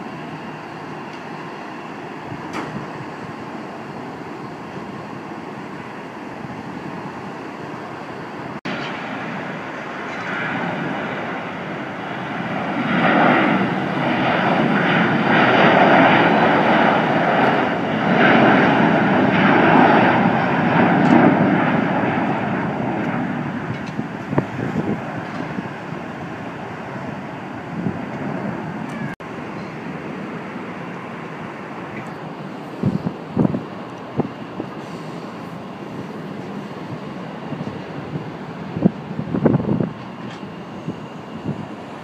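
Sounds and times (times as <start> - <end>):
jet engine roar: 0.0 - 42.0.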